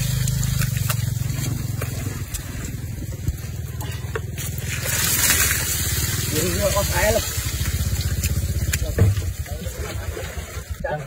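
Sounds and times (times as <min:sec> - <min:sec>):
small engine running: 0:00.0 - 0:10.6.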